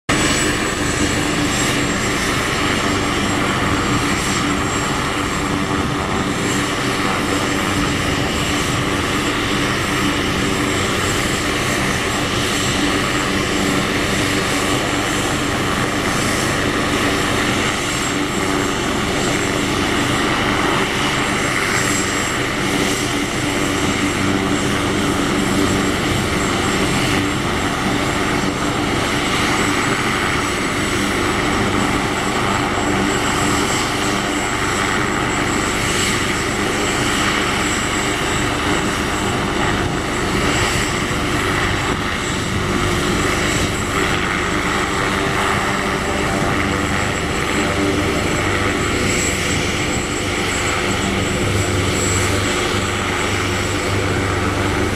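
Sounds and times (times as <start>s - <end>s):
helicopter rotors and turbine whine: 0.0s - 54.9s.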